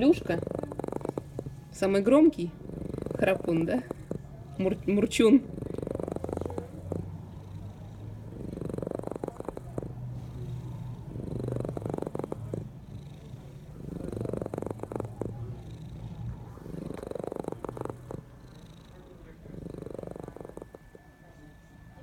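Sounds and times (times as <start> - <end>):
cat purring loudly: 0.0 - 22.0.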